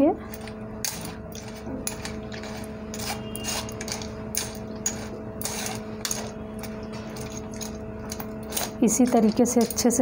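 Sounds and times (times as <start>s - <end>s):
steady low hum: 0.0s - 10.0s
spoon scraping metal sieve: 0.8s - 10.0s.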